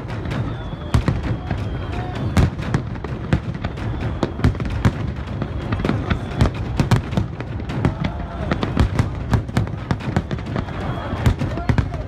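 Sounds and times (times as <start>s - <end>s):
fireworks rumble and crackle: 0.0s - 12.0s.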